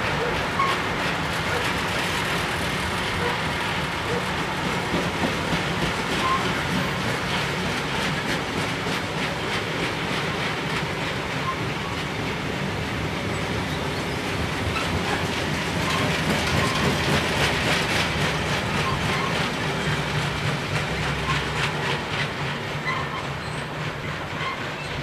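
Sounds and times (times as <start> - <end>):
train rumble: 0.0 - 25.0
train wheels clicking over rail joints: 0.0 - 25.0.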